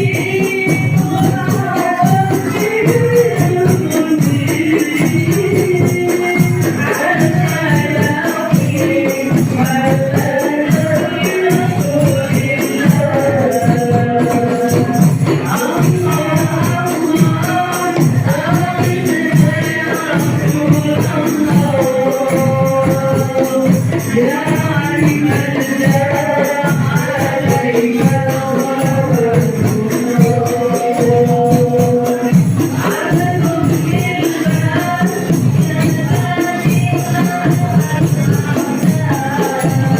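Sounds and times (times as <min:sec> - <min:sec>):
frame drums beating: 0:00.0 - 0:39.9
voices singing together: 0:00.0 - 0:39.9.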